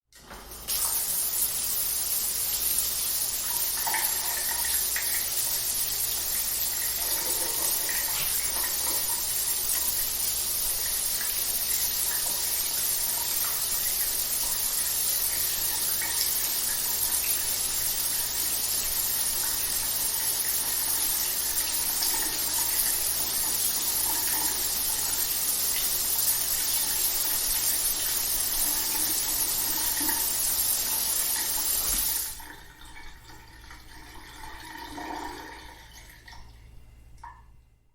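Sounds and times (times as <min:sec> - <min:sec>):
shower water spray hissing: 0:00.5 - 0:32.4.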